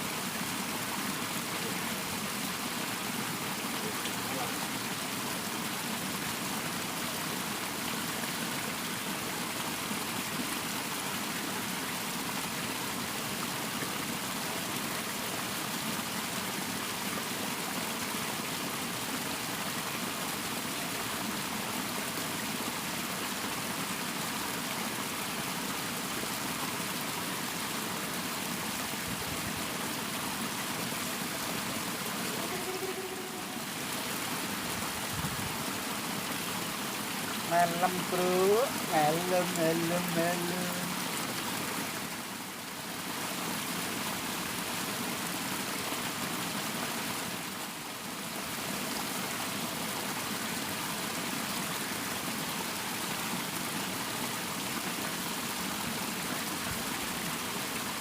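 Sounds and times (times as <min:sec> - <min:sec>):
water flowing in a ditch: 0:00.0 - 0:58.0.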